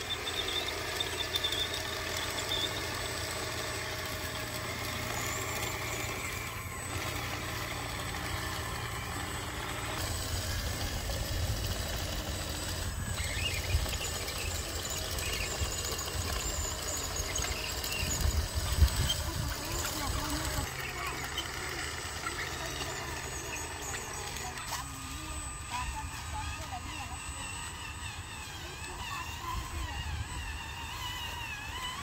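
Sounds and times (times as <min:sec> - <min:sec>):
toy bulldozer engine rumble: 0:00.0 - 0:32.0.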